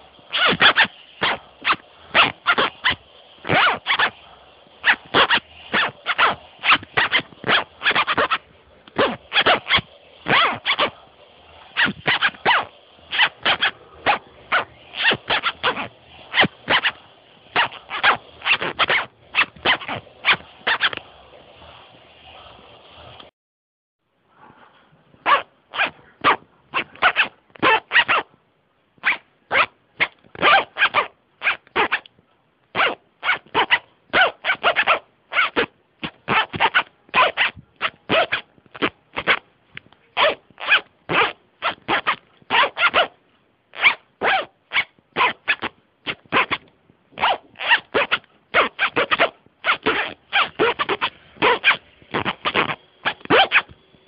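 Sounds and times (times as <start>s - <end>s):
zipper zipped rhythmically: 0.0s - 23.3s, 25.2s - 28.3s, 29.0s - 32.1s, 32.7s - 54.0s.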